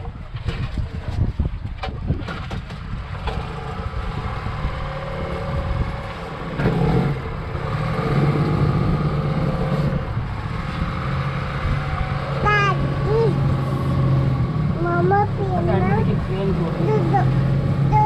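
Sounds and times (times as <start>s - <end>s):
boat motor droning: 3.1s - 18.0s.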